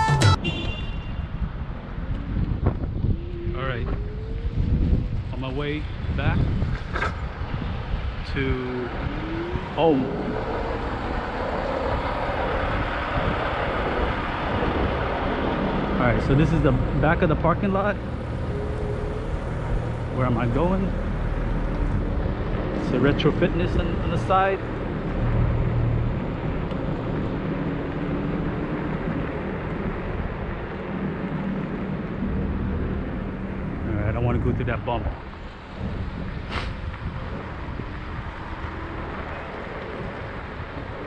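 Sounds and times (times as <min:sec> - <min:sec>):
wind: 0:00.0 - 0:41.0.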